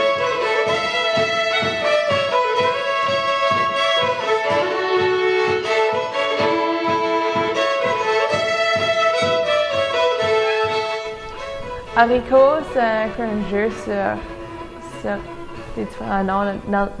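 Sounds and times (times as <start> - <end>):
steady beat: 0.0 - 16.2
fiddle playing lively tune: 0.0 - 17.0.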